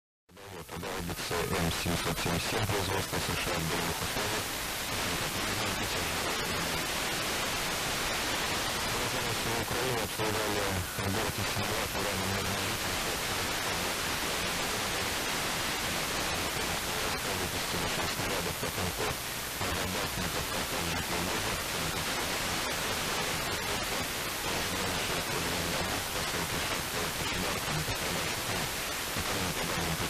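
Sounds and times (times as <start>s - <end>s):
faint radio broadcast: 0.3s - 30.0s
radio static hiss: 0.3s - 30.0s.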